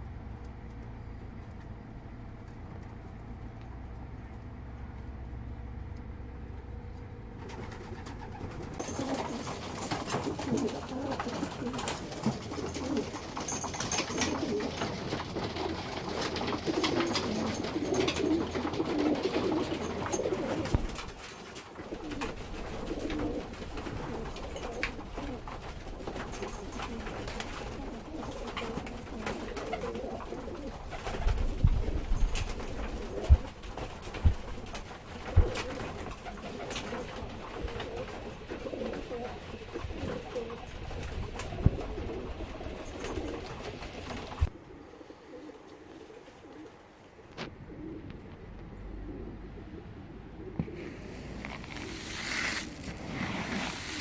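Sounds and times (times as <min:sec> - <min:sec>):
pigeons cooing: 0:07.3 - 0:52.1.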